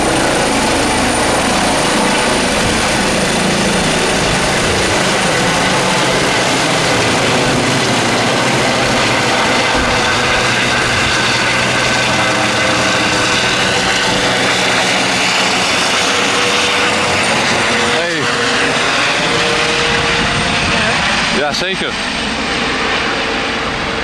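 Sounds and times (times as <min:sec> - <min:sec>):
helicopter rotor and engine noise: 0:00.0 - 0:24.0
high whine: 0:00.0 - 0:24.0.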